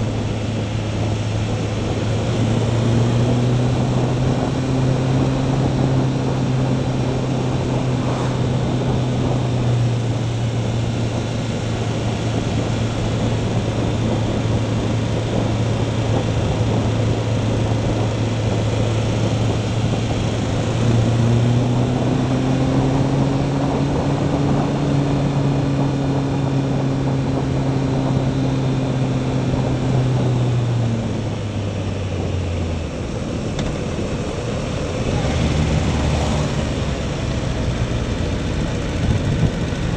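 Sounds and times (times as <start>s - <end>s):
motorcycle engine running: 0.0s - 39.9s
road noise on wet road: 0.0s - 39.9s
wind rushing: 0.3s - 32.8s.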